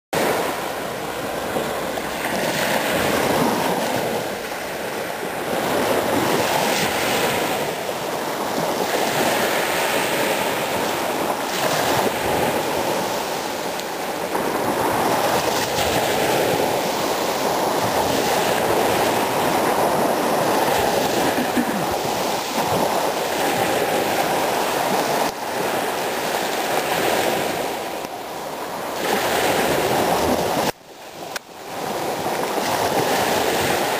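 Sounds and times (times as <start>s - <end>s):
small waves washing on sand: 0.2s - 33.9s.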